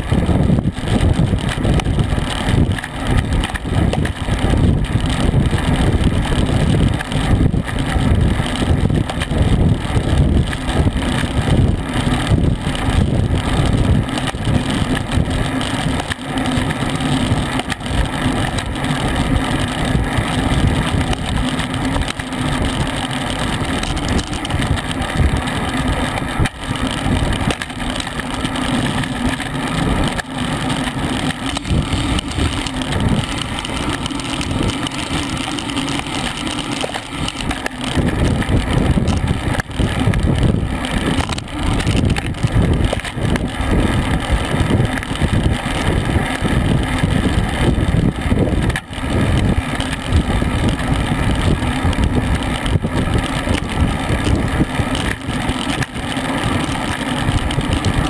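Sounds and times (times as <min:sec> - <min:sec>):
road and tyre noise: 0:00.0 - 0:58.0
wind rushing over microphone: 0:00.0 - 0:58.0.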